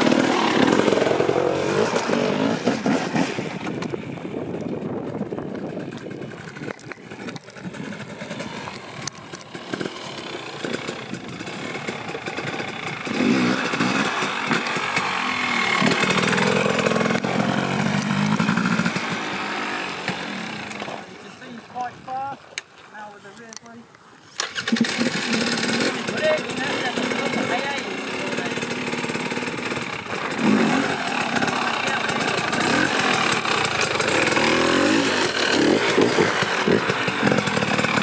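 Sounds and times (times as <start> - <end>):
motorcycle engine revving: 0.0 - 21.9, 24.4 - 38.0.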